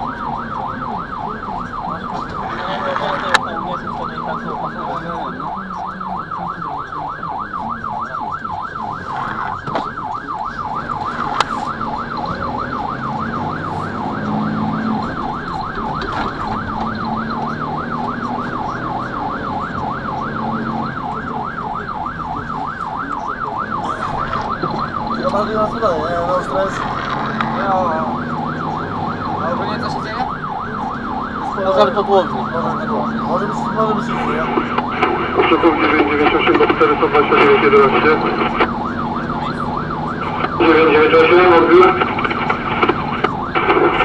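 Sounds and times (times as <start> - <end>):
diesel engine running: 0.0 - 44.0
fire engine siren yelp warble: 0.0 - 44.0.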